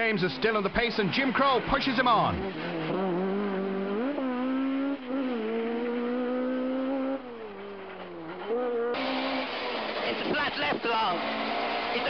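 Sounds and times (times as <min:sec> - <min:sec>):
gear change: 0:00.0 - 0:12.0
rally car engine revving hard: 0:01.3 - 0:12.0.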